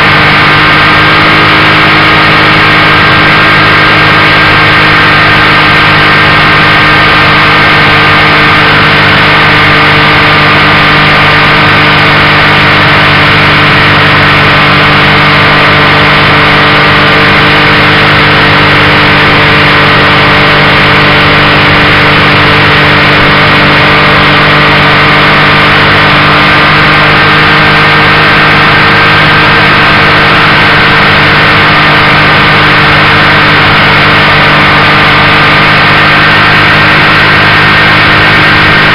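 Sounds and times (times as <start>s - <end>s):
motorcycle engine cruising: 0.0s - 38.9s
rushing wind noise: 0.0s - 38.9s.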